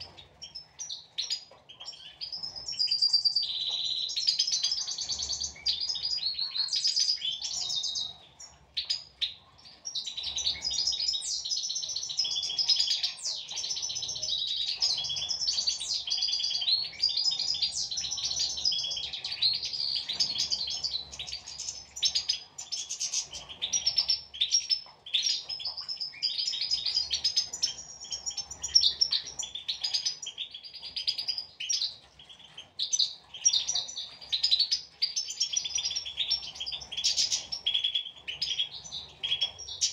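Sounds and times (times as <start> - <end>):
finches twittering and singing: 0.0 - 39.9.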